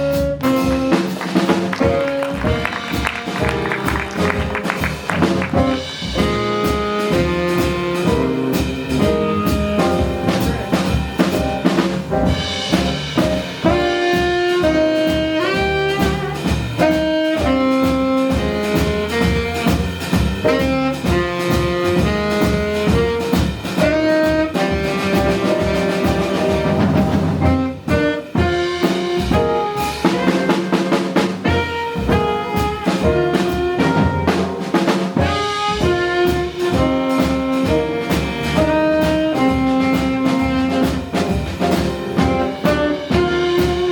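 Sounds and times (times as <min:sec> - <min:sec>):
saxophone melody: 0:00.0 - 0:11.8, 0:13.6 - 0:34.6, 0:35.2 - 0:43.9
drum kit and rhythm section: 0:00.0 - 0:43.9.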